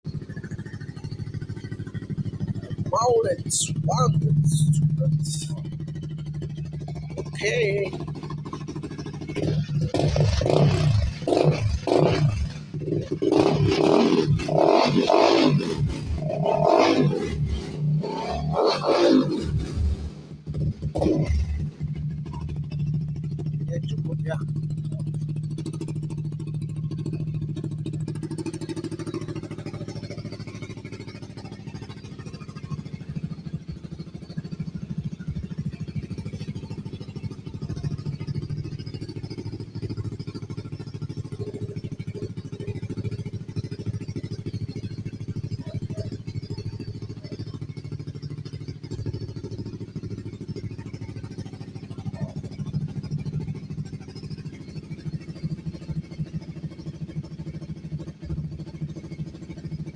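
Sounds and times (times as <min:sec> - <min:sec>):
motorcycle engine with loud exhaust: 0:00.0 - 0:59.9.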